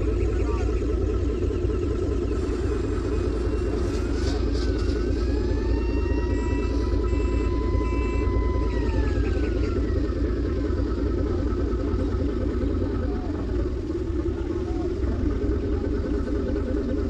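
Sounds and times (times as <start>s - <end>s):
ferry engines rumbling: 0.0s - 17.0s
high whine: 0.0s - 17.0s.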